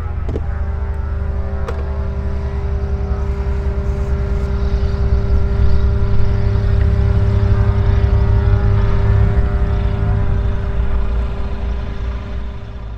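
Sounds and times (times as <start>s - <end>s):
engine droning: 0.0s - 12.9s.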